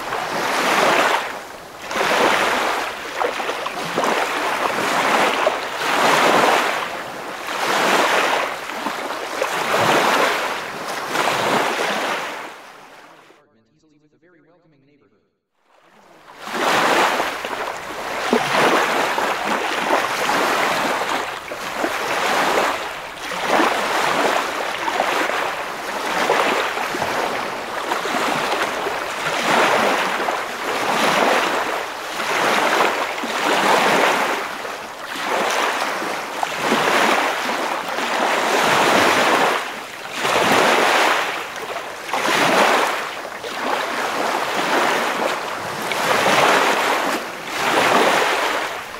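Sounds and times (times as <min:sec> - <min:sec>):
ocean waves washing in: 0:00.0 - 0:13.3, 0:15.7 - 0:48.9.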